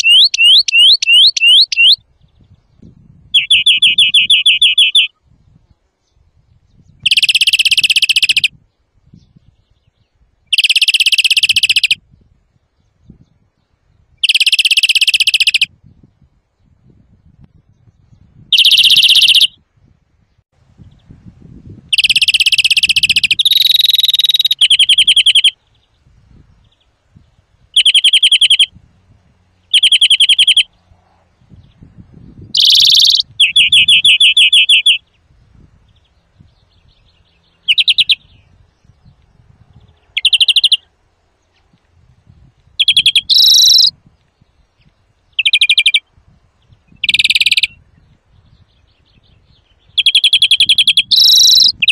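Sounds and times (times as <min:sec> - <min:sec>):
bird singing rapid trills: 0:00.0 - 0:16.1, 0:16.9 - 0:19.6, 0:21.9 - 0:28.8, 0:29.6 - 0:41.8, 0:42.4 - 0:51.9.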